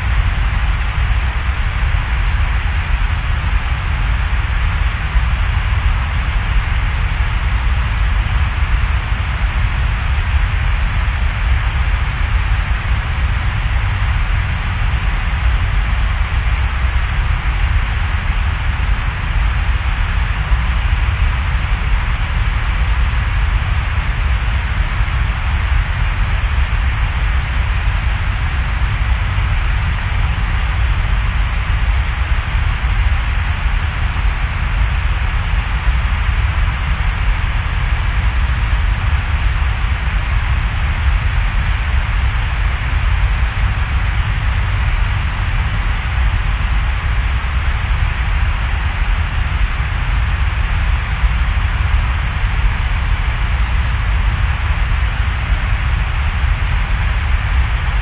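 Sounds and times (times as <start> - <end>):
loud steady hiss: 0.0 - 58.0.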